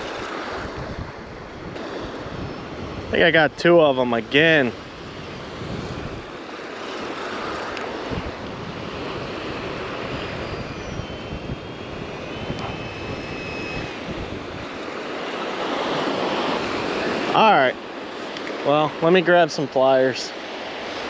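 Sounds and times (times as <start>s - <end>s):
wind buffeting microphone: 0.0s - 19.1s
surf washing onto beach: 0.0s - 21.0s.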